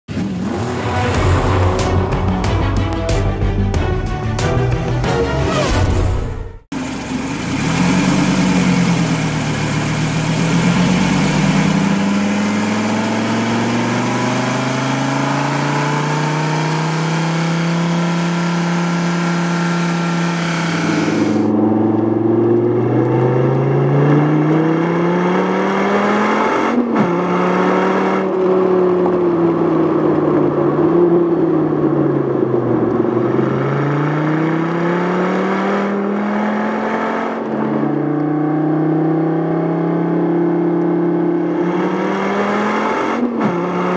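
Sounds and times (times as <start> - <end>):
car engine revving: 0.1 - 43.9.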